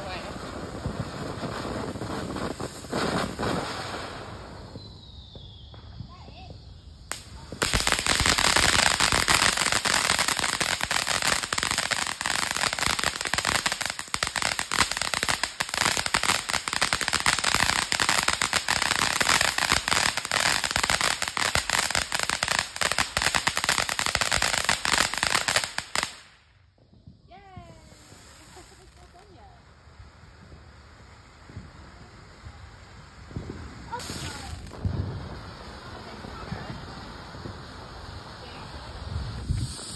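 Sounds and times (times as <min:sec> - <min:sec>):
firework hissing and crackling: 0:00.0 - 0:39.9.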